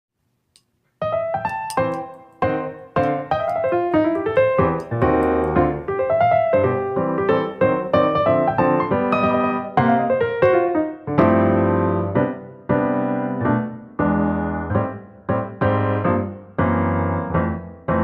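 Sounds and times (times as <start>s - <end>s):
piano music: 1.0s - 18.0s.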